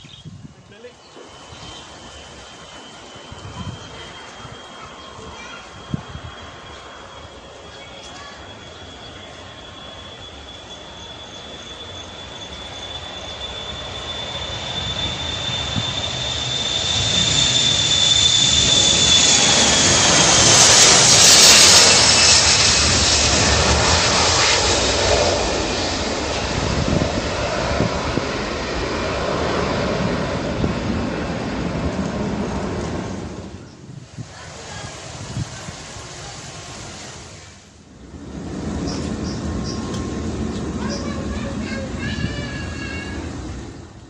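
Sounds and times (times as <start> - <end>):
high fan whine: 0.0 - 44.0
jet engines roaring on takeoff: 0.2 - 44.0.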